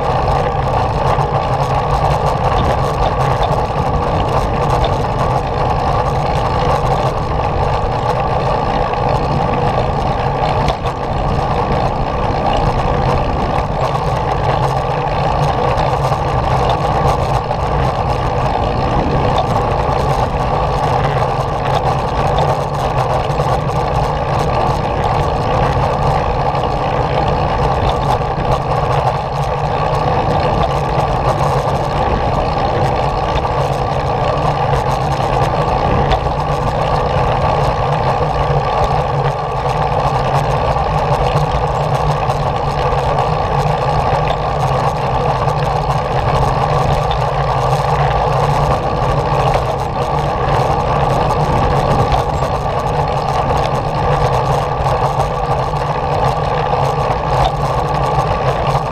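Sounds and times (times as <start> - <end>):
small vehicle rolling on concrete: 0.0 - 58.9.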